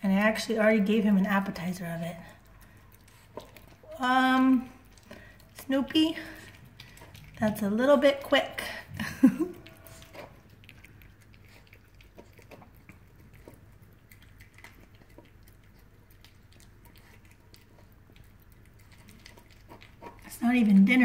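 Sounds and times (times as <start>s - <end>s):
puppy chewing and licking: 0.1s - 21.0s.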